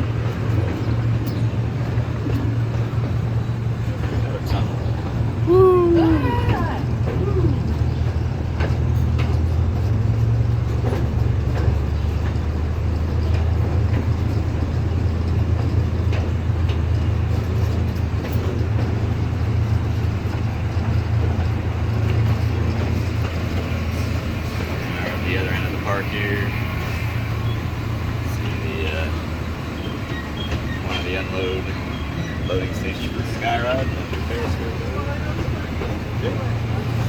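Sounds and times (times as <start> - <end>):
amusement park train rumbling: 0.0 - 37.0.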